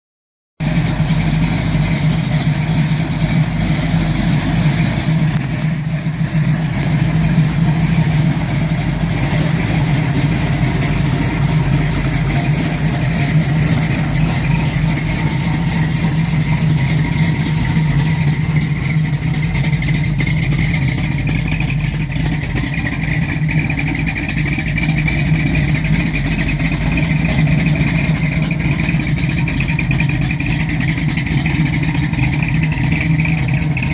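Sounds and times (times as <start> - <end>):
car engine rough idling: 0.6 - 33.9.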